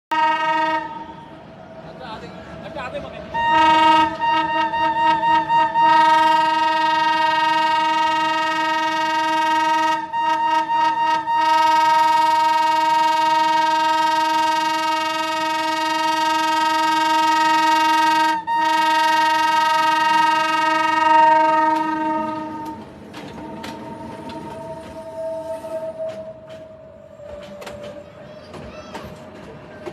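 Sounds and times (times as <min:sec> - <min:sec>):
train horn blast: 0:00.1 - 0:01.4, 0:03.3 - 0:28.0.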